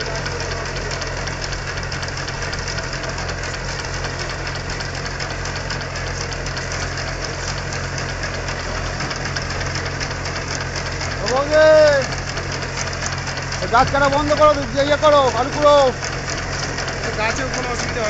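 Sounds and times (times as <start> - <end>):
tractor diesel engine clattering: 0.0 - 18.0.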